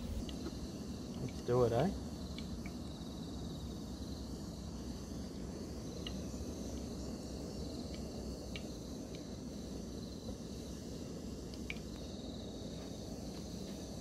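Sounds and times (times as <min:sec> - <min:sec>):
crickets trilling: 0:00.0 - 0:14.0
low outdoor background rush: 0:00.0 - 0:14.0.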